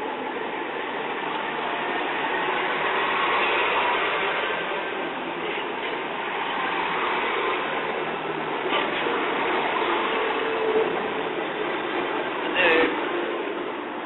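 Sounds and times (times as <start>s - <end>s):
diesel train running on rails: 0.0s - 14.0s.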